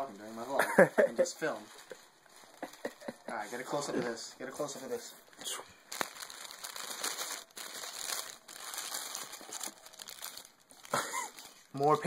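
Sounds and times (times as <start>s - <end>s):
packing paper rustling and crinkling: 0.0s - 5.1s, 5.8s - 12.0s.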